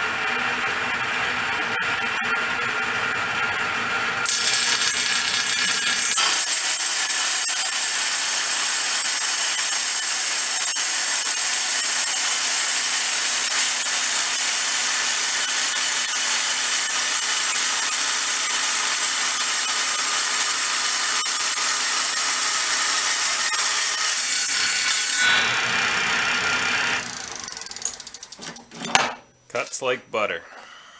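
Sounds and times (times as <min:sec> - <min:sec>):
table saw cutting steel plate: 0:00.0 - 0:29.1.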